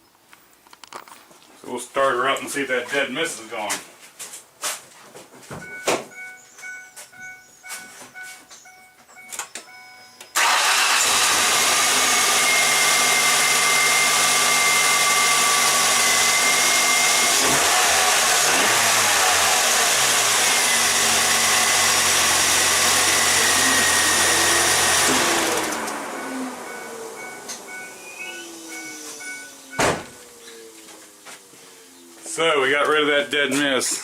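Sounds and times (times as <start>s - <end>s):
car engine starting and running: 5.6s - 33.1s.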